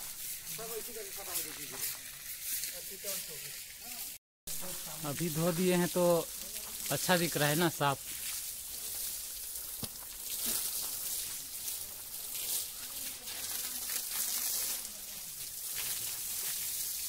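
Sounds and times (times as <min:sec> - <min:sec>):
hose water spraying: 0:00.0 - 0:17.0.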